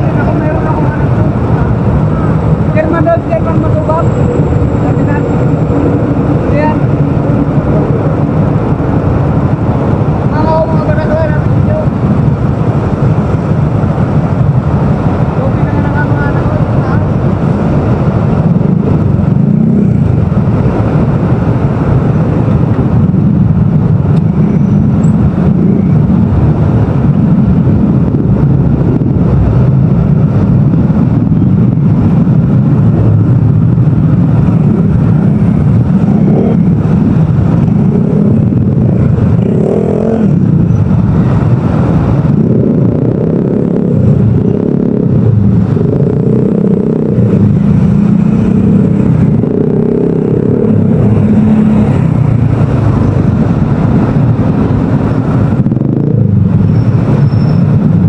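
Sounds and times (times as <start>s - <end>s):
motorcycle engine rumbling: 0.0s - 58.0s
surrounding motorcycle engines: 0.0s - 58.0s.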